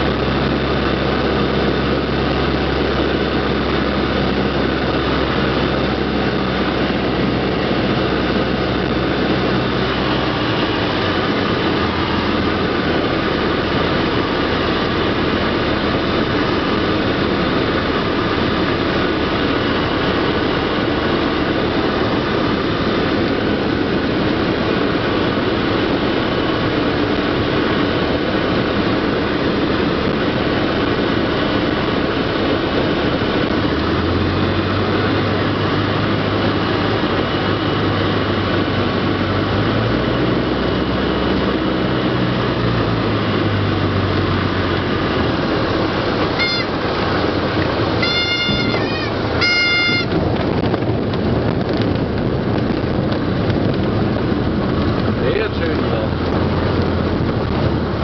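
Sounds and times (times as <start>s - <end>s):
airplane engine and propeller drone: 0.0s - 58.0s
rushing air: 0.0s - 58.0s.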